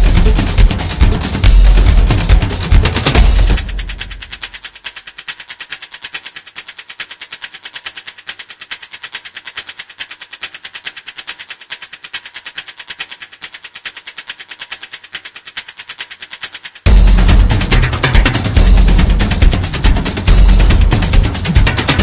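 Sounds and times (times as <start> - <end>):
rapid high clicking: 0.0 - 22.0.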